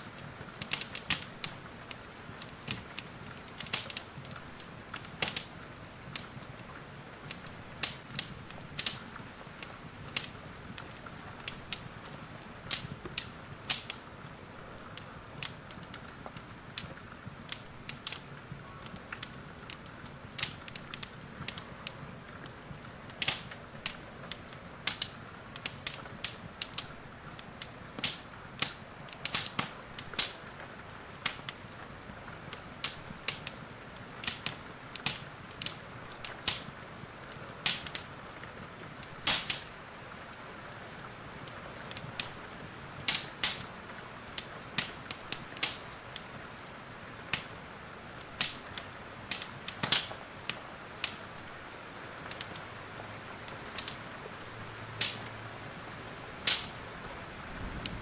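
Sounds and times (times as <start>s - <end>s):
rain hissing: 0.0s - 58.0s
wood fire crackling: 0.0s - 58.0s.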